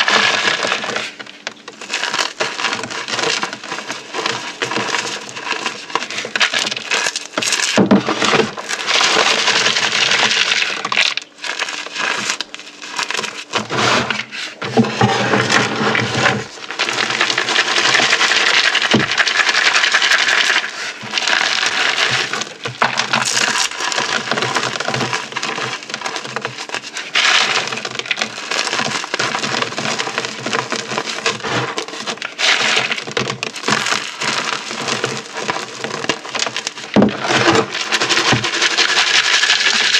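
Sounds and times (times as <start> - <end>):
beads and chalk crunching: 0.0 - 39.9.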